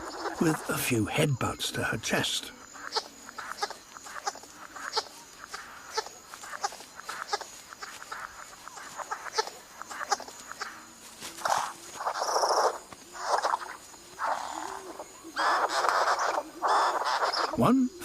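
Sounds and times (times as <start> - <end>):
high insect whine: 0.0 - 18.0.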